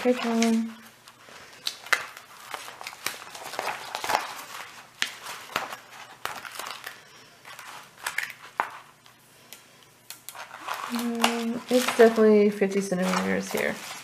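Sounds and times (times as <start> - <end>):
paper crinkling and crackling: 0.0 - 14.0.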